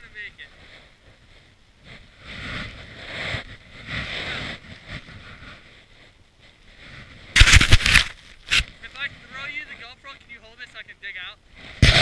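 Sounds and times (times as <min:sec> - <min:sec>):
snow crunching: 0:00.0 - 0:12.0.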